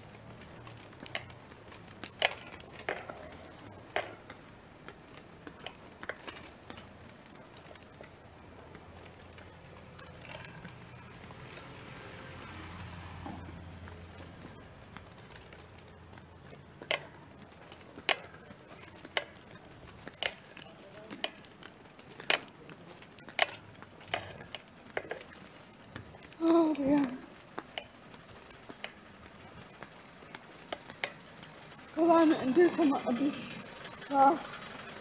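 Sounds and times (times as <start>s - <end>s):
footsteps on pavement: 0.0s - 34.0s.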